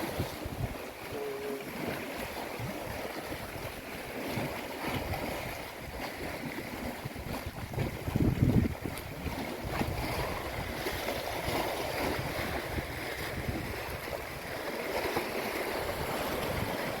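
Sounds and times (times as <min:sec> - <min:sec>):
small waves washing over stones: 0:00.0 - 0:17.0
wind buffeting microphone: 0:00.0 - 0:17.0.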